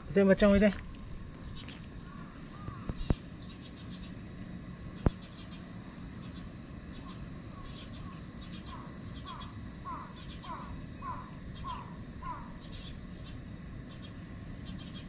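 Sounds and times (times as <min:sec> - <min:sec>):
high insect hiss: 0:00.0 - 0:15.0
faint bird chirp: 0:00.9 - 0:04.2, 0:04.8 - 0:15.0.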